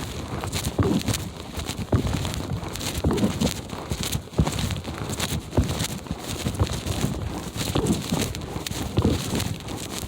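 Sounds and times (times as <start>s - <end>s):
footsteps crunching through snow: 0.0s - 10.0s.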